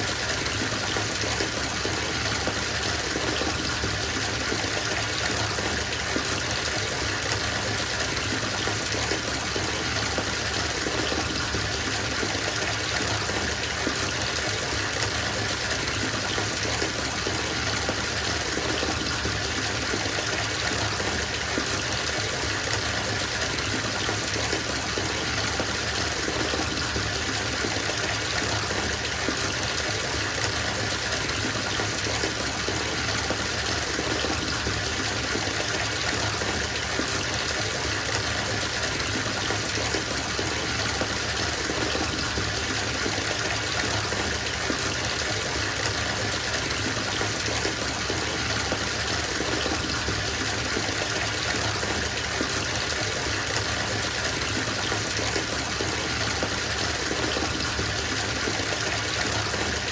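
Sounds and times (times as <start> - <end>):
water running into bathtub: 0.0 - 59.9.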